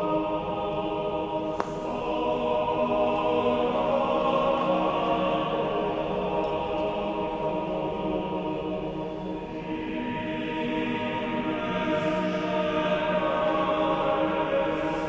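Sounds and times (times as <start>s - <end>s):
slow sustained choir-like chords: 0.0s - 15.0s.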